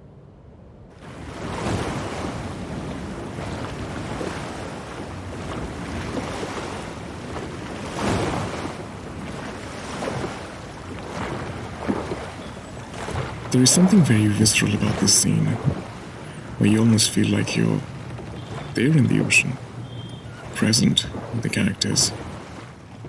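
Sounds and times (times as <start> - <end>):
wind: 0.0 - 23.0
rough sea waves splashing: 1.1 - 23.0.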